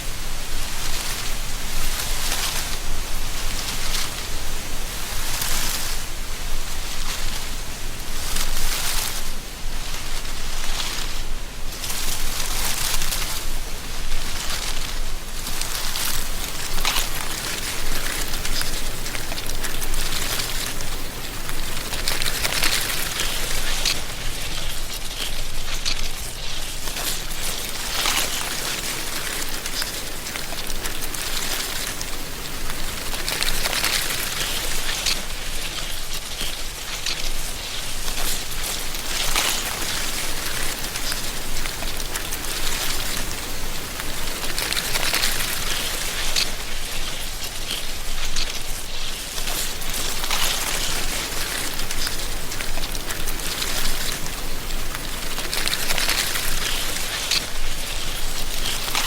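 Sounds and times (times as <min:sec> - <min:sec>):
dry leaves rustling: 0:00.0 - 0:59.0
wind blowing through trees: 0:00.0 - 0:59.0.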